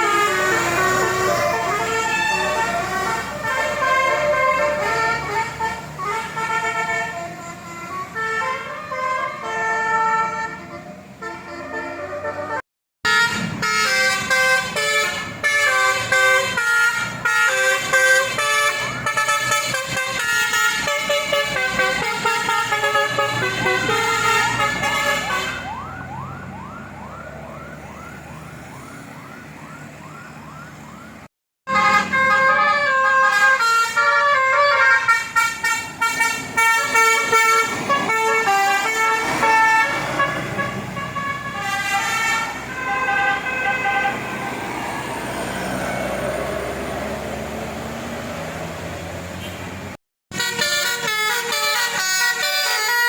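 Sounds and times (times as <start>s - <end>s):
multi-tone bus horn: 0.0s - 26.0s, 31.7s - 47.2s, 49.3s - 53.0s
engine and road noise: 0.0s - 53.0s.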